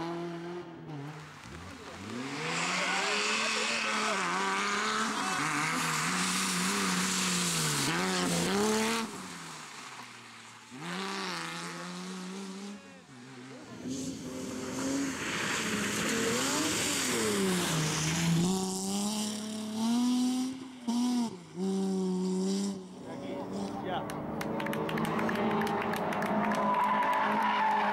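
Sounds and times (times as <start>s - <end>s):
rally car engines accelerating: 0.0s - 27.9s.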